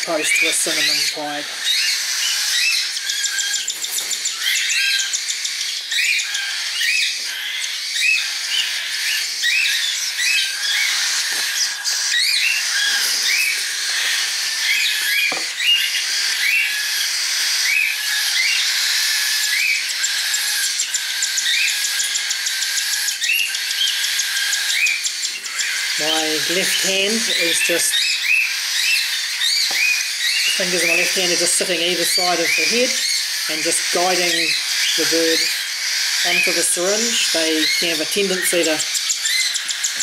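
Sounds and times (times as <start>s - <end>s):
chicks raspy hissing chatter: 0.0s - 40.0s.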